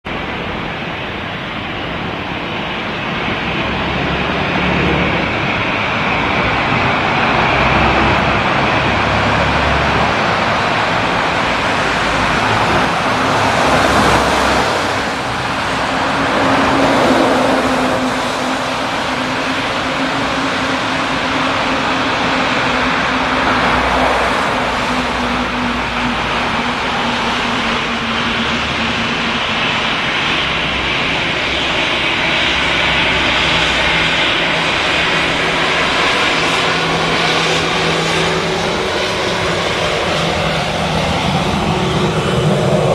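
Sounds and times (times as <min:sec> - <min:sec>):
jet engines rushing: 0:00.0 - 0:42.9.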